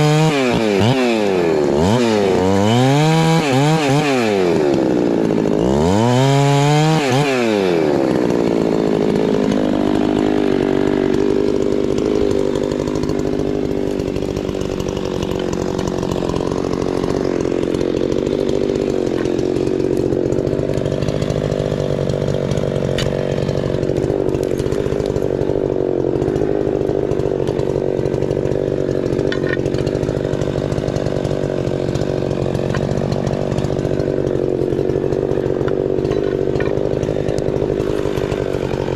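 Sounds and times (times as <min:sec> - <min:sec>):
chainsaw revving and cutting log: 0:00.0 - 0:38.9.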